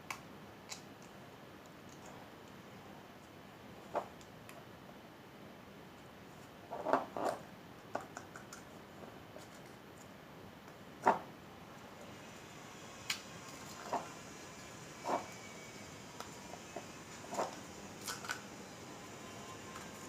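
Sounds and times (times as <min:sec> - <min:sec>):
faint room hiss: 0:00.0 - 0:20.0.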